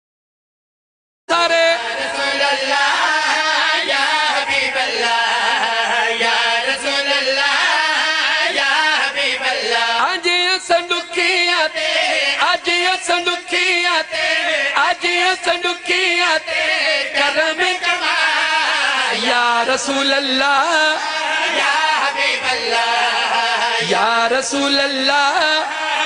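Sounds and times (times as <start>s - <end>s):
men chanting into microphones: 1.3s - 26.0s.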